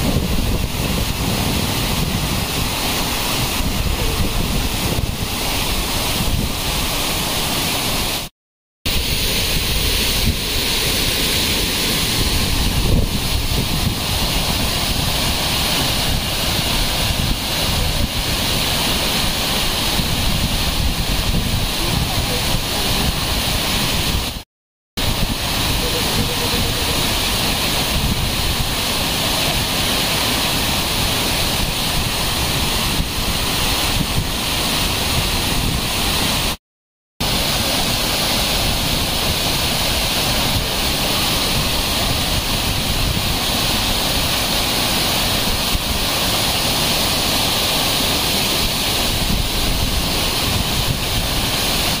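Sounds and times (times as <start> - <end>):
waterfall roaring: 0.0 - 8.3, 8.9 - 24.4, 25.0 - 36.6, 37.2 - 52.0.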